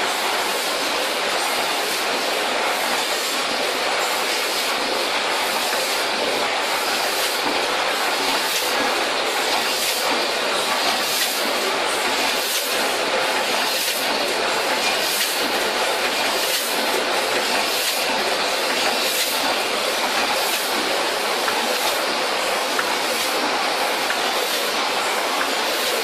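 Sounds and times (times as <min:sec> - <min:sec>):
packaging machine mechanical din: 0:00.0 - 0:26.0.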